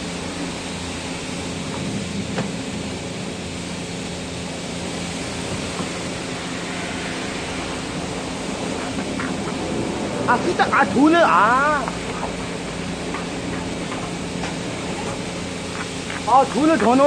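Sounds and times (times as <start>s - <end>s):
car wash equipment hiss and hum: 0.0s - 17.0s.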